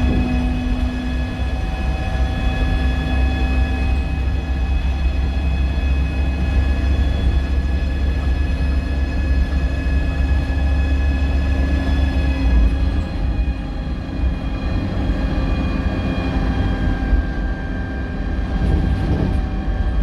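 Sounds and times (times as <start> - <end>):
bus engine and road rumble: 0.0 - 20.0
drivetrain and turbo whine: 0.0 - 20.0.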